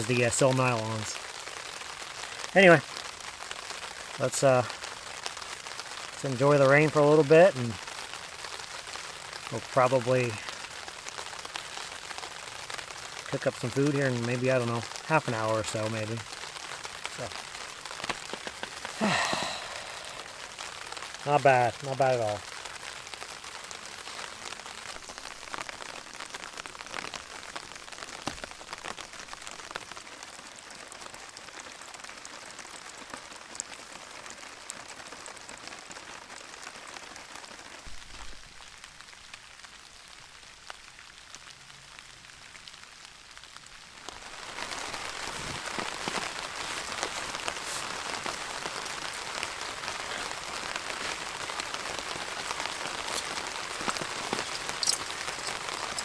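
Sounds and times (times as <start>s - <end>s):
rain pattering on a tarp: 0.0s - 56.0s.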